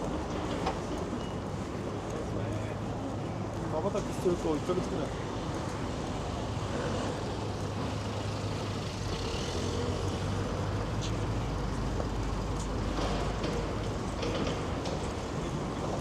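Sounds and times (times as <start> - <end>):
vehicle engines and tyre noise: 0.0 - 16.0.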